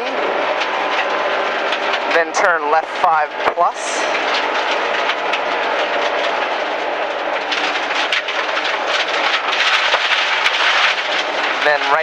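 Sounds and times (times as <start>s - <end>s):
car engine: 0.0s - 12.0s
tyres on gravel: 0.2s - 12.0s.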